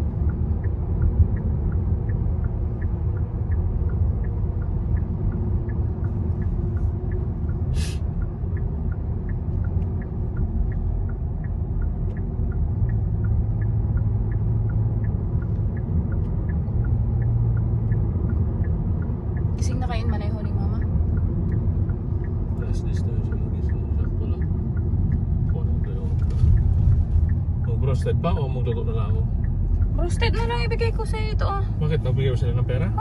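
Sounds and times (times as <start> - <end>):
turn signal ticking: 0.0 - 33.0.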